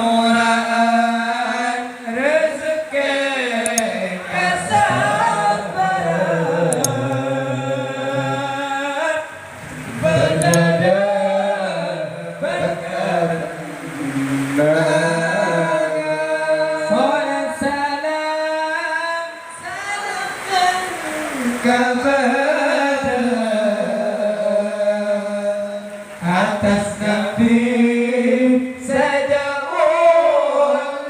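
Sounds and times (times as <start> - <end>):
man singing unaccompanied: 0.0 - 31.0.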